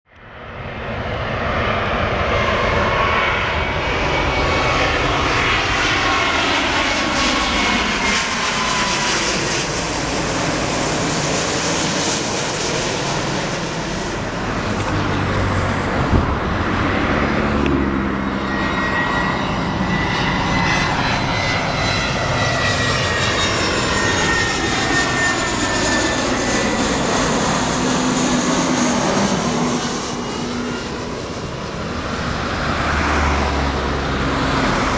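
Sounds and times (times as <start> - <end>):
jet engines rushing: 0.3 - 34.9
whining engine tones: 1.7 - 34.9.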